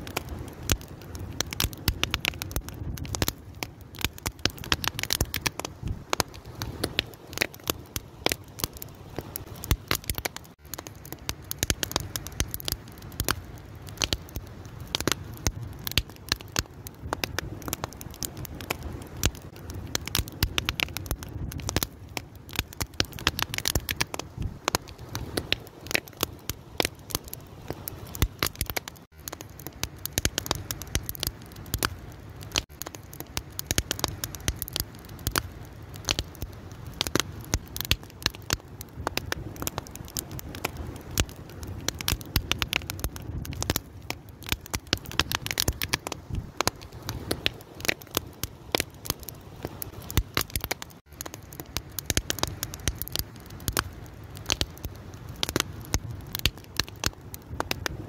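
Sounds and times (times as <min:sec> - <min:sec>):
fire crackling with sharp pops: 0:00.0 - 0:58.0
low rush of flames: 0:00.0 - 0:58.0.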